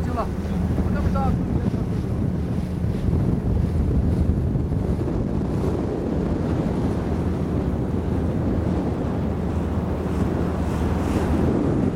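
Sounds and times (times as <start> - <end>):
distant outboard motor: 0.0 - 11.9
wind rumble on microphone: 0.0 - 11.9.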